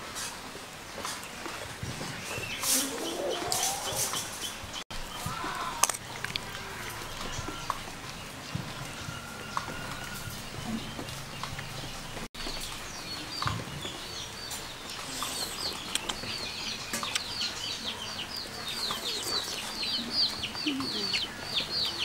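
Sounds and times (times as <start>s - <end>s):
chicks peeping: 1.0s - 22.0s.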